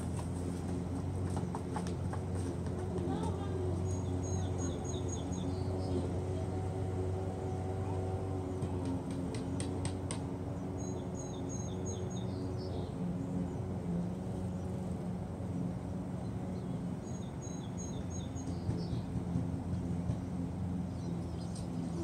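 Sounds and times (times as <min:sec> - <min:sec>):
steady low hum: 0:00.0 - 0:22.0
songbird chirping: 0:03.0 - 0:14.9, 0:15.5 - 0:22.0.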